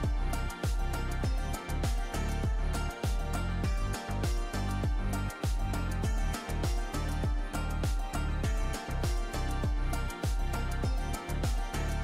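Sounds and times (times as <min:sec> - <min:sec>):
music with bass drum beat: 0:00.0 - 0:12.0.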